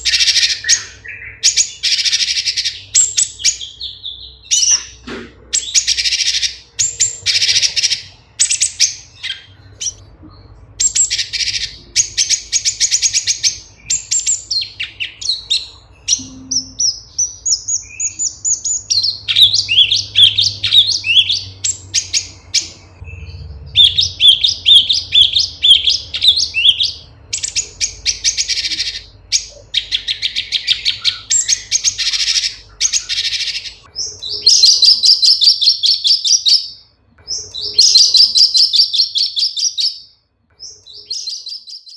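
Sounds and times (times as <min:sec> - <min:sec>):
bird singing rapid song: 0:00.0 - 0:41.9.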